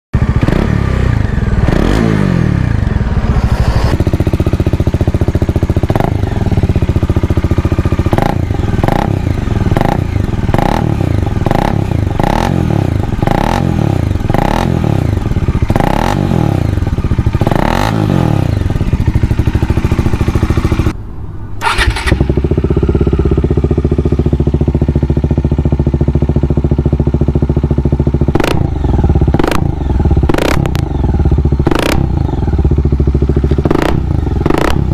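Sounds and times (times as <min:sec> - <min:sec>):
motorcycle engine idling: 0:00.2 - 0:21.0, 0:21.6 - 0:34.9
motorcycle engine revving: 0:00.2 - 0:21.0, 0:21.6 - 0:34.9.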